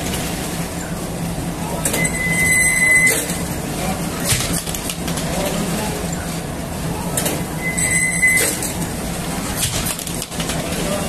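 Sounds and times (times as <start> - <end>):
bakery machinery humming: 0.0 - 11.0.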